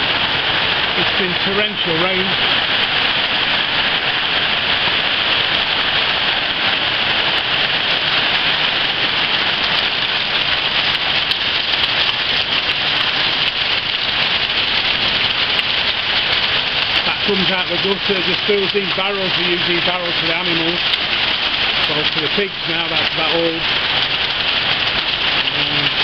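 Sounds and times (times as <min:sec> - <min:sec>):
gutter water splashing into barrel: 0:00.0 - 0:26.0
torrential rain: 0:00.0 - 0:26.0.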